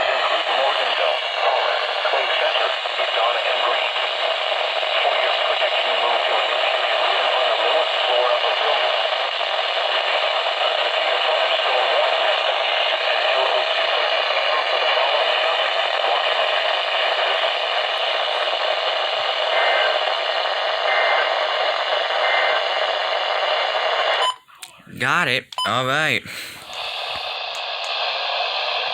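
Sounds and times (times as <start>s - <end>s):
radio static hiss: 0.0s - 28.9s.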